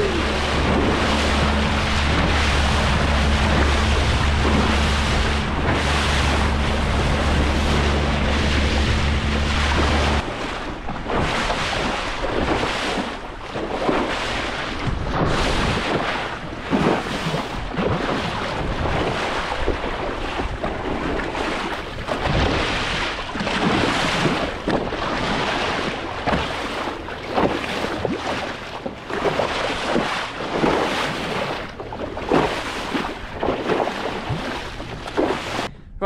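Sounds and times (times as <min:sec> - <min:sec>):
hull splashing and thudding: 0:00.0 - 0:35.8
wind buffeting microphone: 0:00.0 - 0:36.0.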